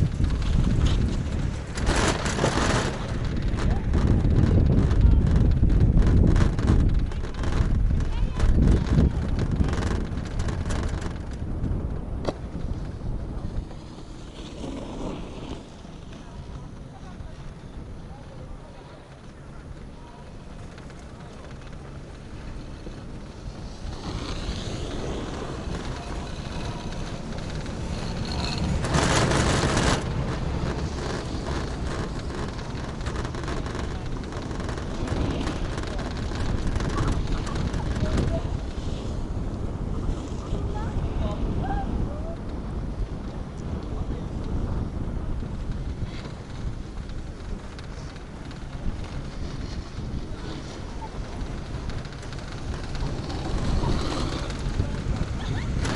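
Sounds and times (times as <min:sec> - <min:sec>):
chairlift rumble: 0:00.0 - 0:55.9
wind buffeting microphone: 0:00.0 - 0:55.9.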